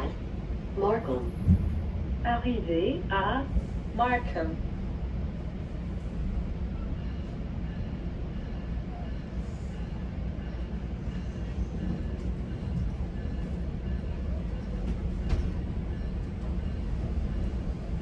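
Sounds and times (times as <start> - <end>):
train rumble inside coach: 0.0 - 18.0.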